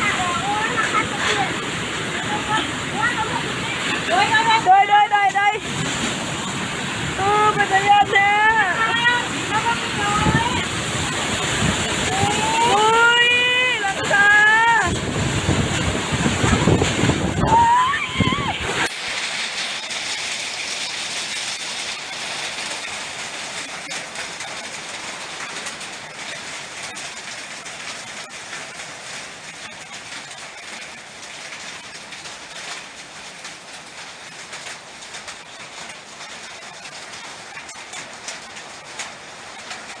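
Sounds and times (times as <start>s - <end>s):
strong wind and rain: 0.0s - 40.0s.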